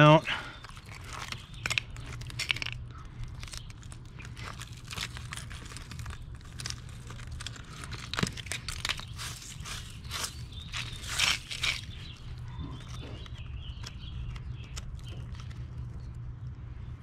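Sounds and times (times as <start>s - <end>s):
concrete chips crunching and scraping: 0.0s - 16.2s.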